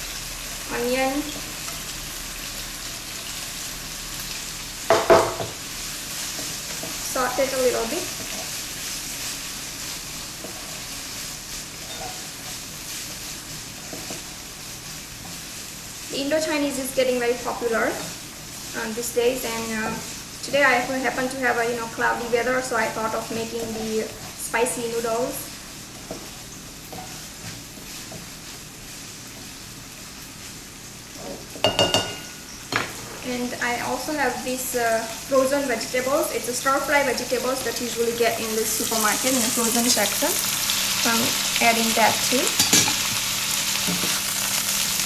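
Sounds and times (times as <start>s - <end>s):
vegetables sizzling in hot oil: 0.0s - 45.0s.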